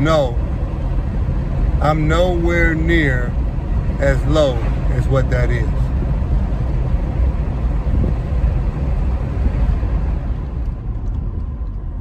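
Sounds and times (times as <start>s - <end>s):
car rumbling in motion: 0.0s - 12.0s.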